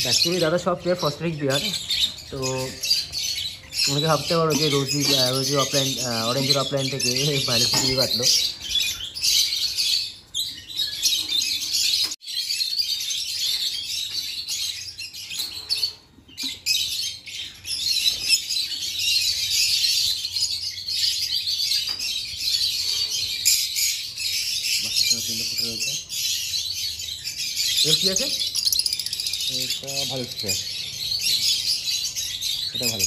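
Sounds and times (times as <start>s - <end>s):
parrots chirping and chattering: 0.0s - 33.0s.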